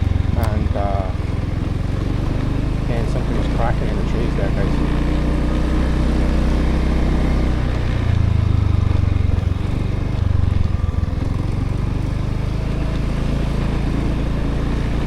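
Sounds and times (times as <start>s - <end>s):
motorbike engine running: 0.0s - 15.0s
road and wind noise: 0.0s - 15.0s.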